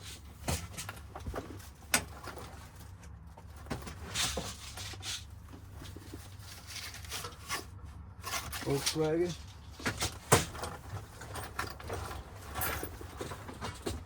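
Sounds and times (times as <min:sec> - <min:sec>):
rustles and scrapes of tools: 0:00.0 - 0:14.0.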